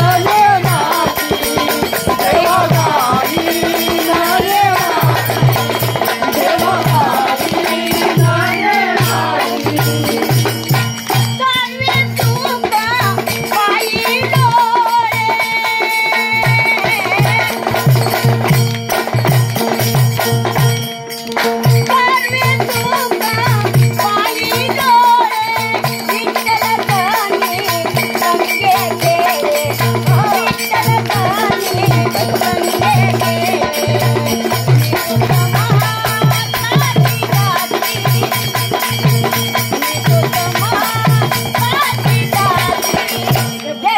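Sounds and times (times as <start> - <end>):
woman singing: 0.0 - 18.0, 21.8 - 43.9
rattling percussion: 0.0 - 43.9.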